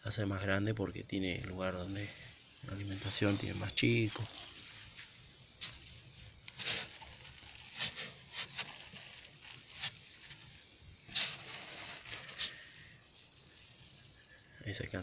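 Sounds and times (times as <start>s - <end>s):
hand rummaging through damp compost: 1.8s - 15.0s.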